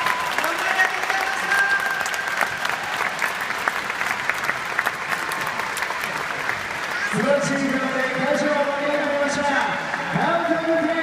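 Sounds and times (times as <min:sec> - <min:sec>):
stadium crowd applauding: 0:00.0 - 0:11.0.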